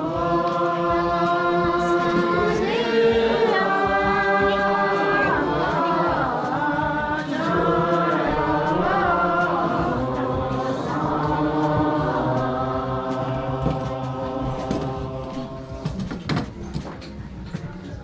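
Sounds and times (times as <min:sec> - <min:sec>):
group singing in unison: 0:00.0 - 0:18.0.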